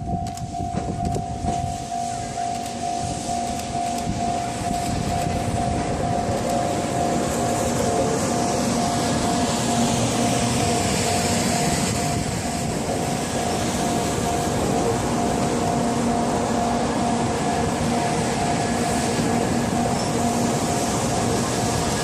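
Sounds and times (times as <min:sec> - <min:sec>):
level-crossing warning bell: 0:00.0 - 0:22.0
train rumbling and hissing: 0:00.0 - 0:22.0.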